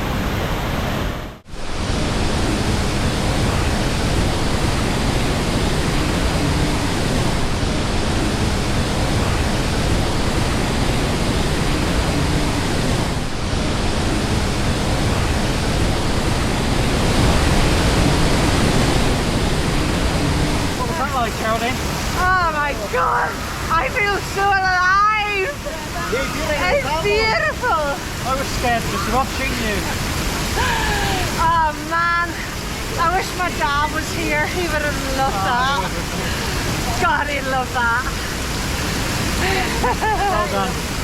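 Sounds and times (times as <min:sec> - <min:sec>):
fast-flowing river water: 0:00.0 - 0:41.0
waterfall rushing: 0:00.0 - 0:41.0.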